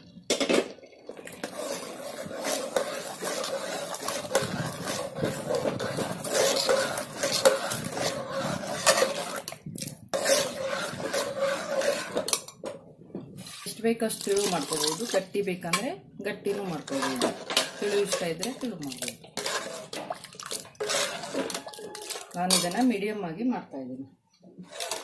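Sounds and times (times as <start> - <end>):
thick food sloshing: 0.9 - 12.4, 13.2 - 15.4, 16.4 - 23.0, 24.6 - 25.0
metal ladle scraping a pot: 1.0 - 23.1, 24.6 - 25.0.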